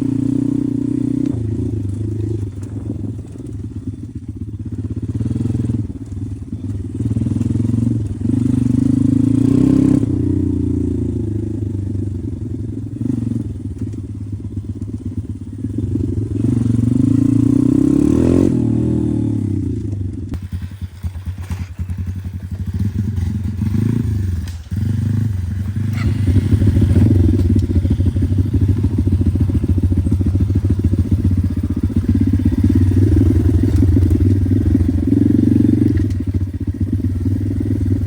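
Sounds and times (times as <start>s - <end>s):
motorbike engine revving: 0.0s - 38.0s.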